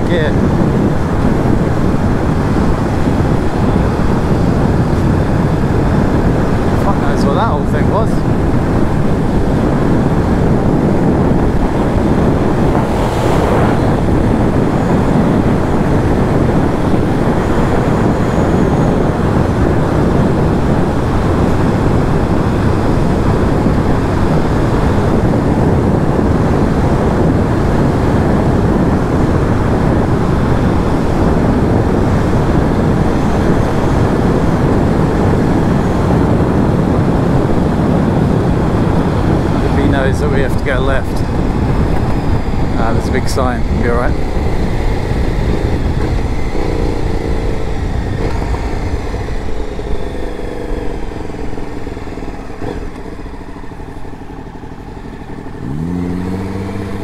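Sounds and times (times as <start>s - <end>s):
motorcycle engine cruising: 0.0s - 57.0s
wind rush over microphone: 0.0s - 57.0s.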